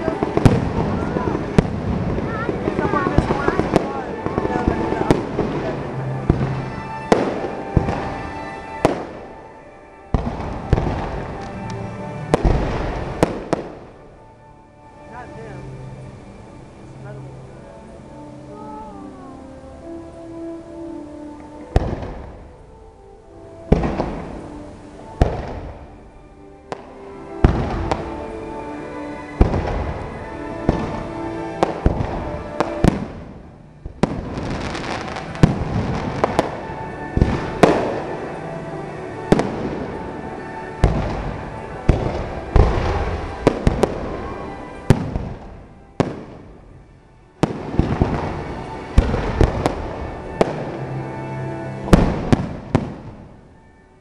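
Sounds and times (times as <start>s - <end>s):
firework crackle: 0.0s - 54.0s.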